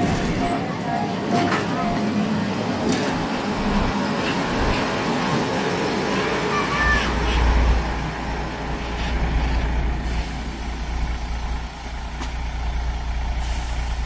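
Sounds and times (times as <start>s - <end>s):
diesel train engine rumbling: 0.0s - 14.0s.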